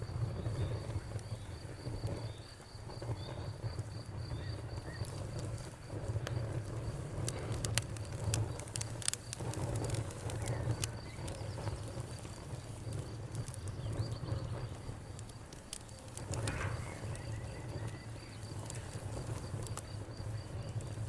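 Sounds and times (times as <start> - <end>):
cricket trilling: 0.0 - 21.0
wood fire crackling and popping: 0.0 - 21.0.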